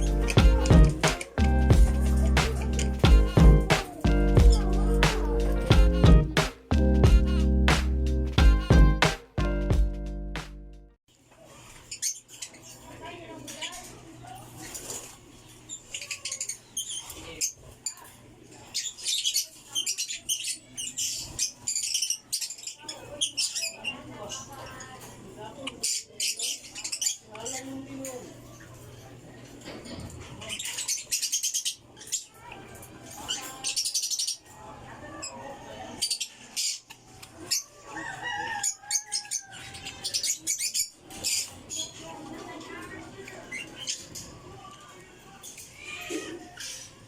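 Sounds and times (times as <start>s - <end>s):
lovebirds chattering: 0.0s - 10.3s, 11.8s - 47.0s.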